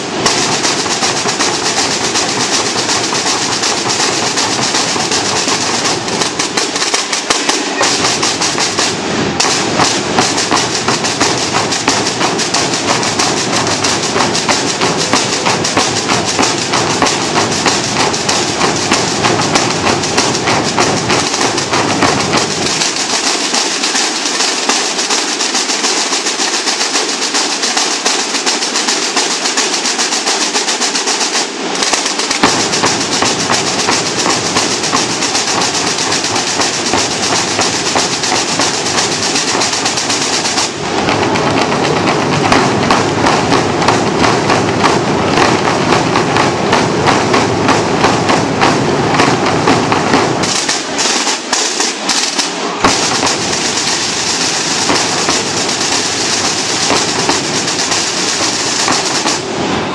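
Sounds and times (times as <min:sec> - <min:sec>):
snare and bass drums playing: 0:00.0 - 0:59.9.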